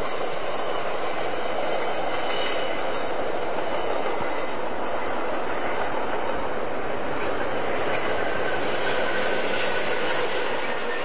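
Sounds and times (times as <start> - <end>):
rattling train cars: 0.0 - 11.0
train wheels on rail: 0.0 - 11.0.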